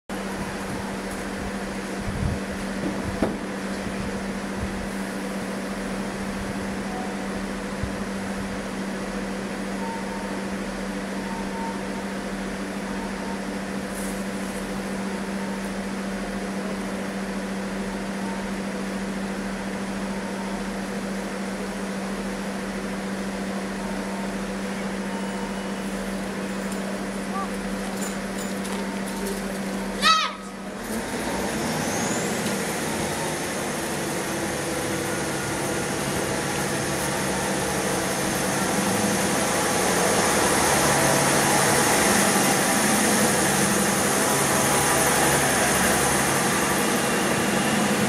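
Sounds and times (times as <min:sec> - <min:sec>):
diesel train idling drone: 0:00.1 - 0:48.0.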